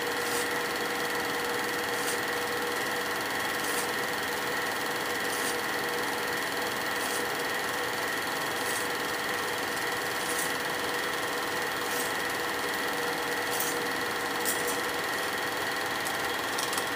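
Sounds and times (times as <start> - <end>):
film projector whirring: 0.0 - 16.9.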